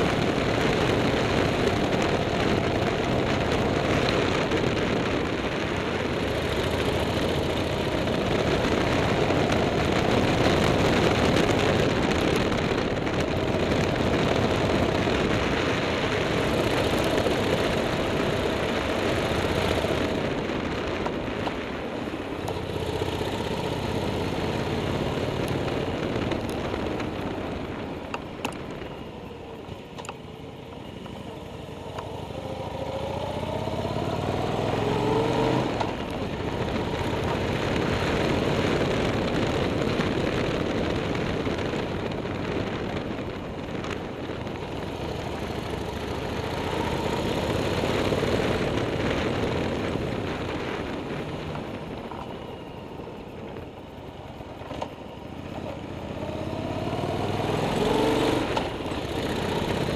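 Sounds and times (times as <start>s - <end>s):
motorcycle engine: 0.0s - 59.9s
steady rushing noise: 0.0s - 59.9s.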